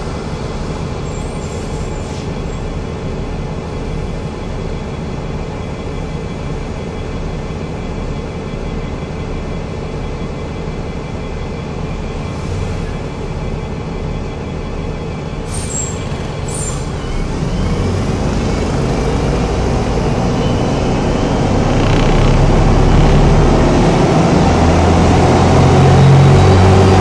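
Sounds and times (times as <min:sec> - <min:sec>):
bus engine drone: 0:00.0 - 0:27.0.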